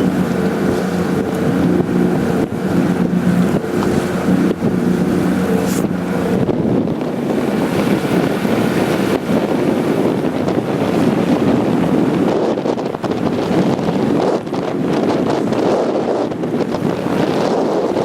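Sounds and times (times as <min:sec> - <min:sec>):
boat engine running: 0:00.0 - 0:18.0
wind buffeting microphone: 0:00.0 - 0:18.0.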